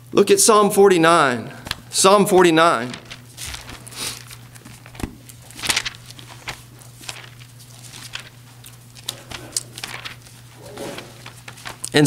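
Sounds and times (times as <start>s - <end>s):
low steady hum: 0.0s - 12.0s
pages turning with papery rustles: 1.6s - 12.0s.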